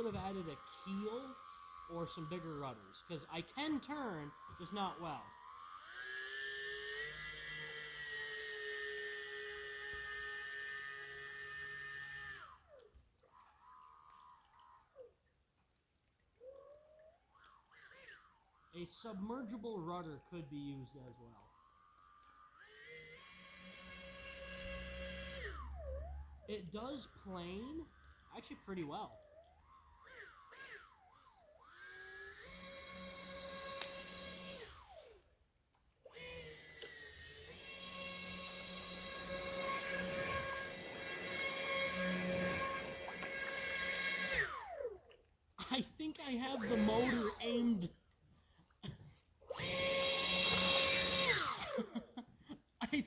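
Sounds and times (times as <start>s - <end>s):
electric motor high whine: 0.0s - 15.2s, 16.4s - 35.4s, 36.1s - 48.0s, 49.4s - 52.2s.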